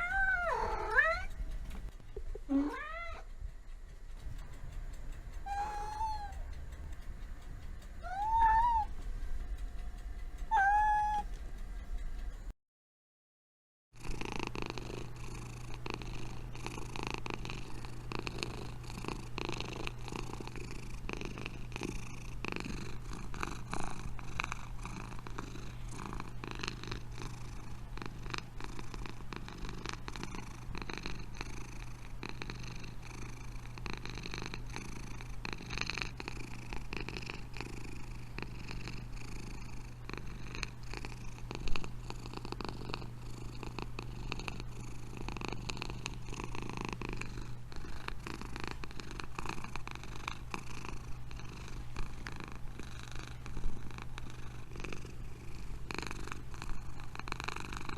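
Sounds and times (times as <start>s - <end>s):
cat purring: 0.0s - 12.5s, 14.0s - 57.9s.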